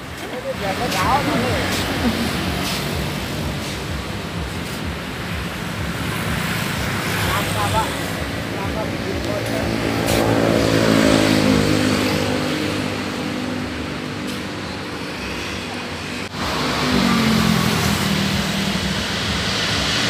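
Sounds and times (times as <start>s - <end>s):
vehicles driving past: 0.0s - 20.0s.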